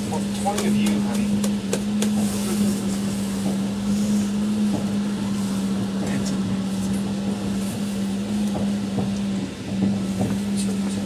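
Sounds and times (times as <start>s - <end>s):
funicular car humming: 0.0s - 11.0s.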